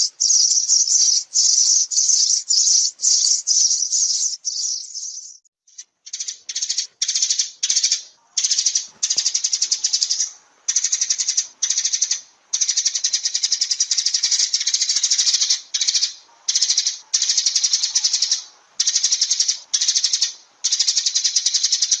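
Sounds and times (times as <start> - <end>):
sparrow chattering: 0.0 - 22.0.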